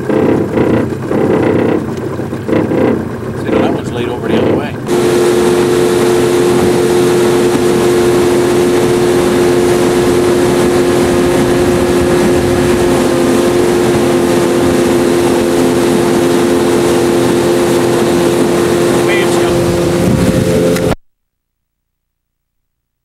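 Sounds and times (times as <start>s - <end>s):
boat motor droning: 0.0s - 21.0s.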